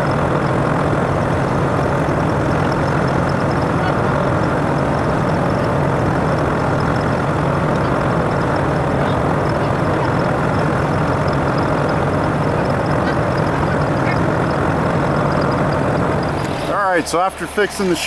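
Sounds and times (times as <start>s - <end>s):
heavy engine running: 0.0s - 18.0s.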